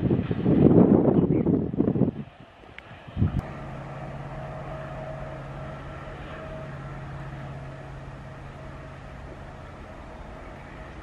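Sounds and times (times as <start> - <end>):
diesel locomotive engine drone: 0.0 - 11.0.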